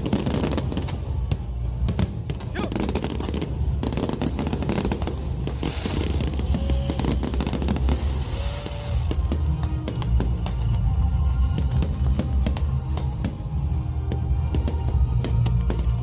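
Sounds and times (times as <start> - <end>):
fireworks popping and crackling: 0.0 - 16.0.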